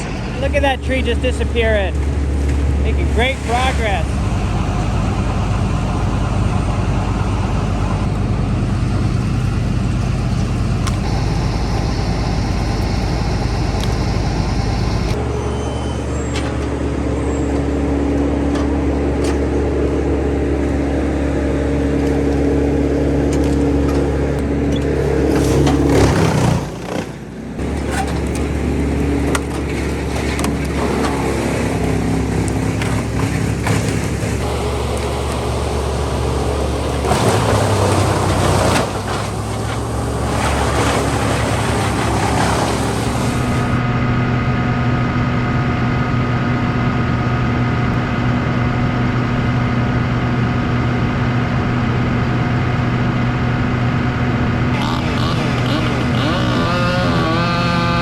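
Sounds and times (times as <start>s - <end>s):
heavy machinery engines humming: 0.0s - 58.0s.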